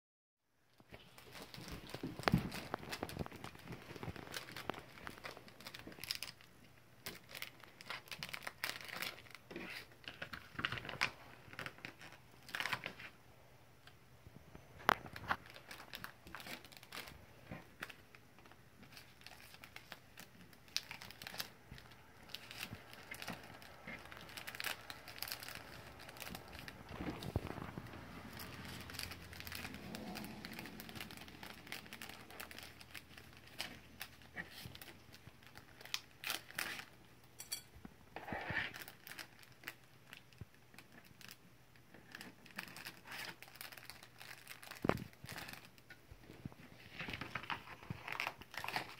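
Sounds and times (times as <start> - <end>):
plastic bags crinkling: 0.7 - 13.2, 14.8 - 37.6, 38.2 - 48.9.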